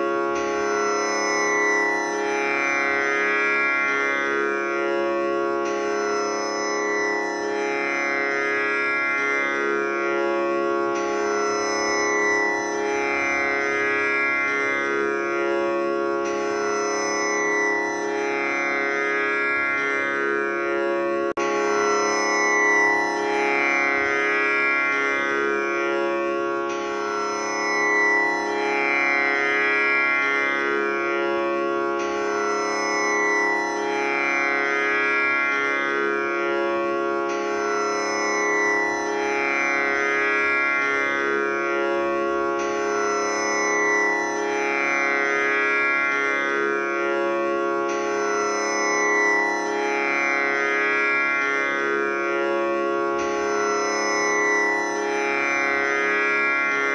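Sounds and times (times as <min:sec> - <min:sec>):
tanpura drone: 0:00.0 - 0:56.9.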